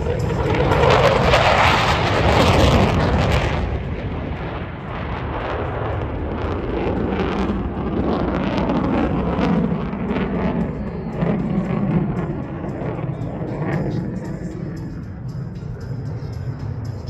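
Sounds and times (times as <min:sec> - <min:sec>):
fighter jet roaring past: 0:00.0 - 0:17.0.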